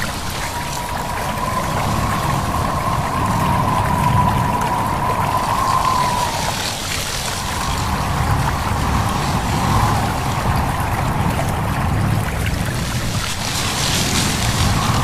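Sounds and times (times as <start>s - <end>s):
leaves rustling: 0.0s - 15.0s
low wind rumble: 0.0s - 15.0s
stream babbling: 0.0s - 15.0s.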